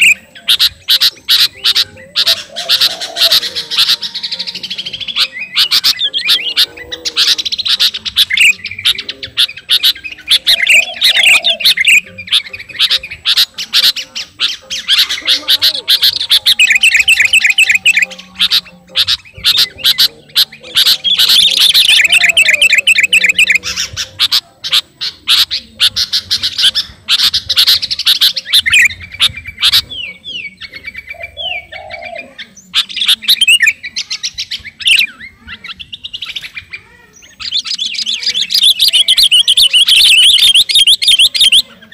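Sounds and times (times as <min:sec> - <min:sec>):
bird chattering and trilling: 0:00.0 - 0:41.9.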